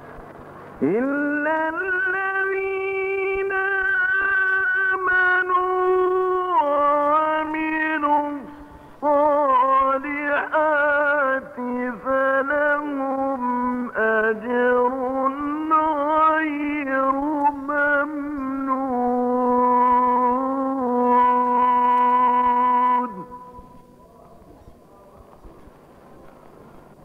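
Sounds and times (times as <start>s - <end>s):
man chanting melodically: 0.8s - 25.6s.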